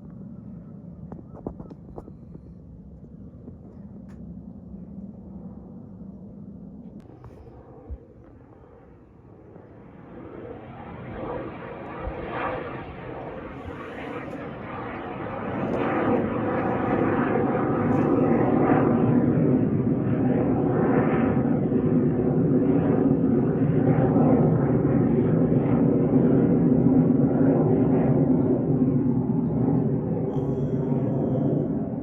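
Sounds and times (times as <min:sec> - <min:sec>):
aircraft engines droning: 0:00.0 - 0:32.0.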